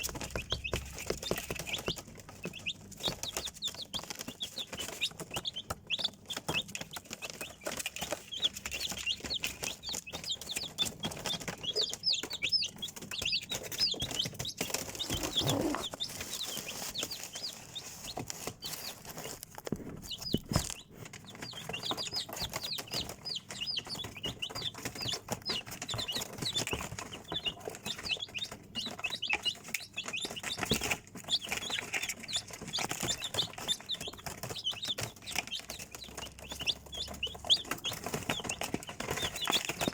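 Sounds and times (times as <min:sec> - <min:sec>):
chicks peeping: 0:00.0 - 0:39.9
light clicks and scratches: 0:00.0 - 0:39.9.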